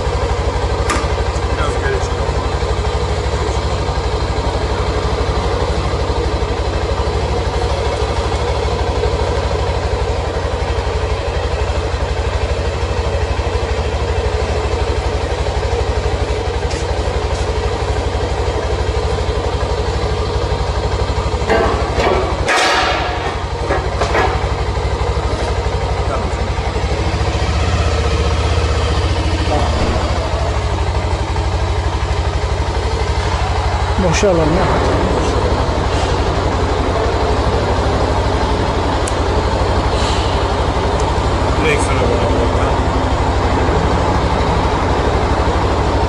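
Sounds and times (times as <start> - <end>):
motorcycle engine idling: 0.0 - 46.0.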